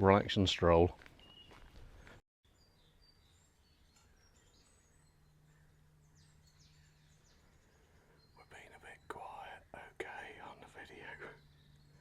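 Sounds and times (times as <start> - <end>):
birds chirping and whistling: 1.1 - 12.0.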